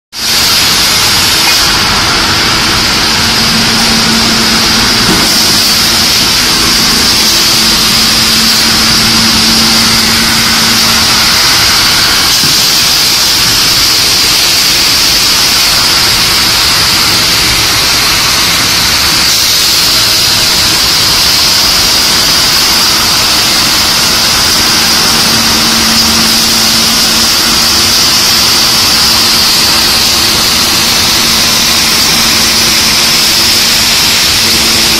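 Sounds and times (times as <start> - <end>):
sanding machines and conveyors: 0.2 - 34.9.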